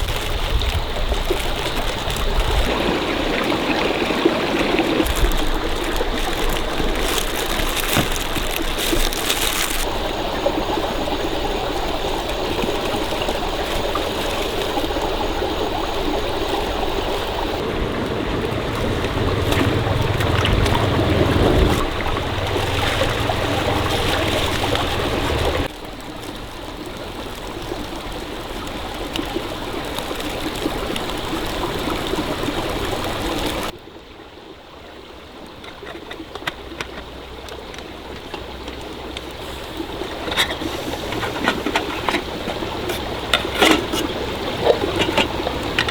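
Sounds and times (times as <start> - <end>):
stream water flowing over stones: 0.0 - 45.9.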